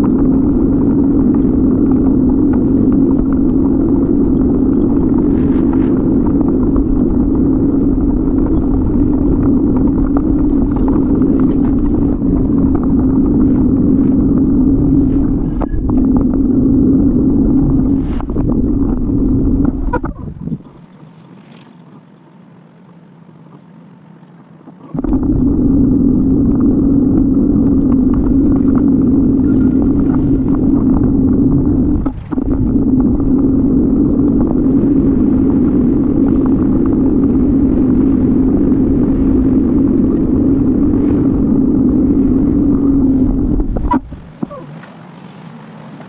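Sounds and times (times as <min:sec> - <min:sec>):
wind and road noise: 0:00.0 - 0:46.0.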